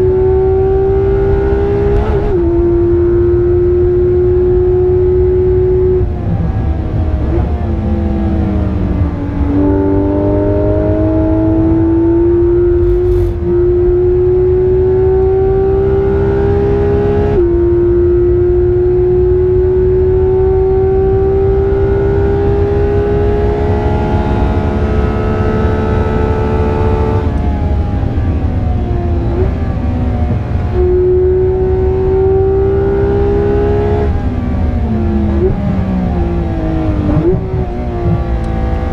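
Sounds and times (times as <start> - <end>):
car engine under hard driving: 0.0 - 38.9
low road rumble: 0.0 - 38.9.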